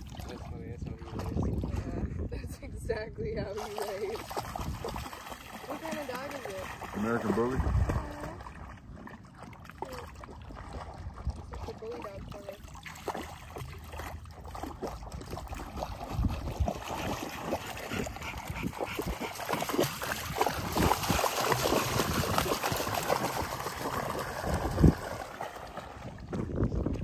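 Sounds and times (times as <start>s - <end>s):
dog splashing through water: 3.4s - 27.0s.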